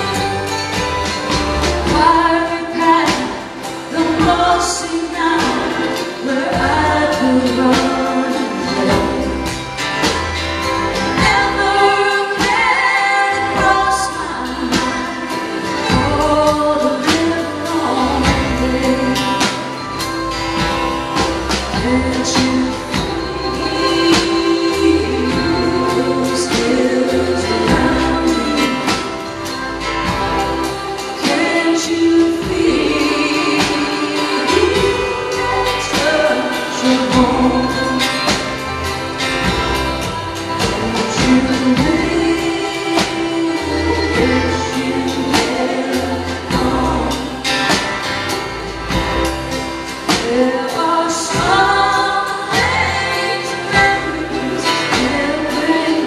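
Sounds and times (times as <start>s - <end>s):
acoustic guitar: 0.0s - 56.0s
bass: 0.0s - 56.0s
voices singing harmony: 0.0s - 56.0s
woman singing lead: 0.0s - 56.0s.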